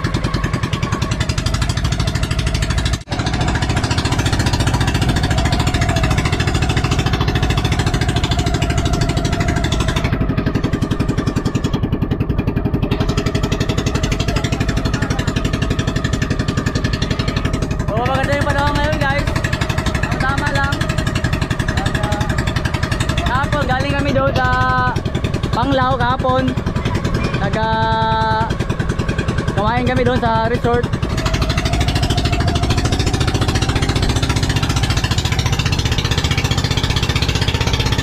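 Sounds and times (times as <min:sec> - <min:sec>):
small boat engine running: 0:00.0 - 0:38.0.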